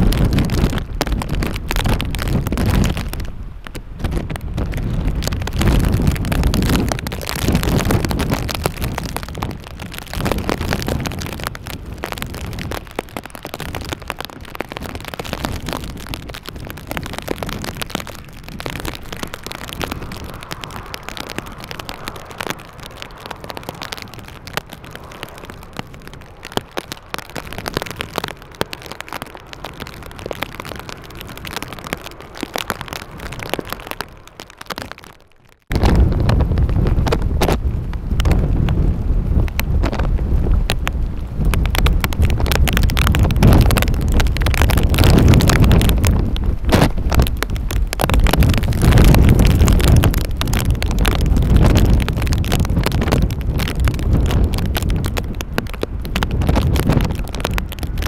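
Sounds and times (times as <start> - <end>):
gusty wind buffeting microphone: 0.0 - 58.0
rain crackling on microphone: 0.0 - 58.0.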